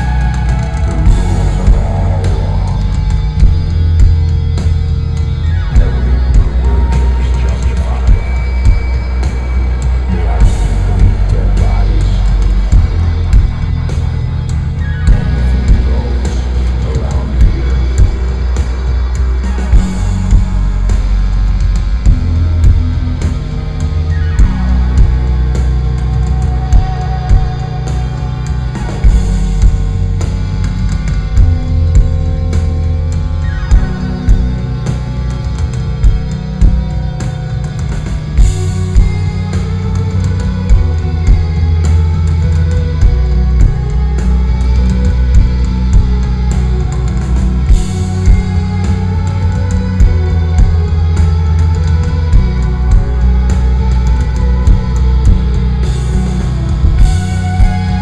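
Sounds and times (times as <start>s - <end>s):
live electronic rock band: 0.0s - 58.0s.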